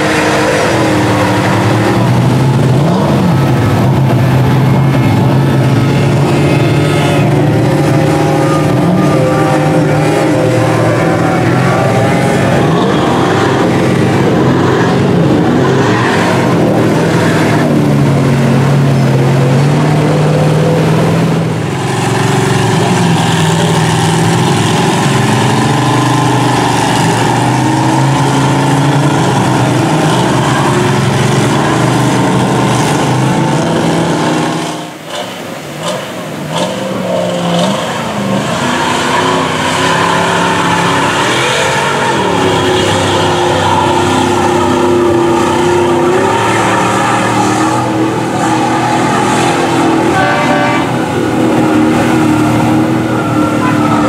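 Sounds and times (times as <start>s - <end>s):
engine revving up and down: 0.0s - 54.0s
engines revving in mud: 0.0s - 54.0s
truck engine pulling under load: 0.0s - 54.0s.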